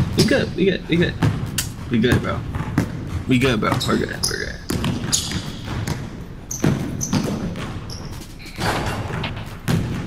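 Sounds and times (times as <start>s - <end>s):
basketball bouncing on hardwood floor: 1.1s - 10.0s.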